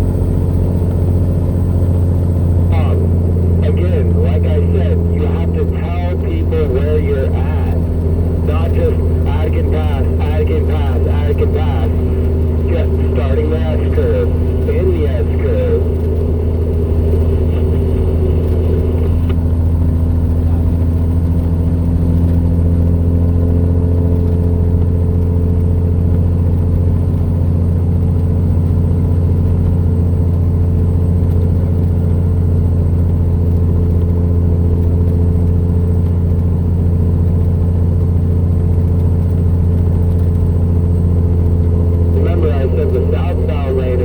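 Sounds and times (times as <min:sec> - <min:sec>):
truck diesel engine under load: 0:00.0 - 0:44.0.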